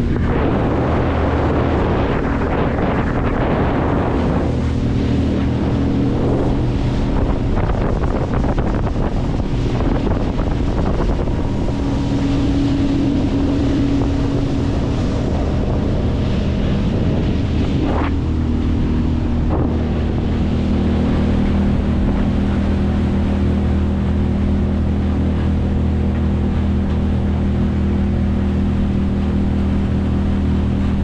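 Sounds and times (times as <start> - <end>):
outboard motor running: 0.0 - 31.0
water noise: 0.0 - 31.0
wind on microphone: 0.0 - 31.0.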